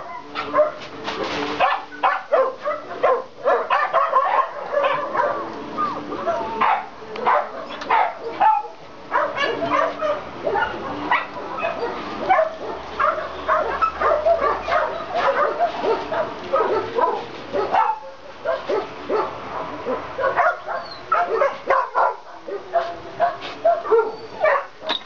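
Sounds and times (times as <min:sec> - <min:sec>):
dogs barking and yipping: 0:00.0 - 0:25.0.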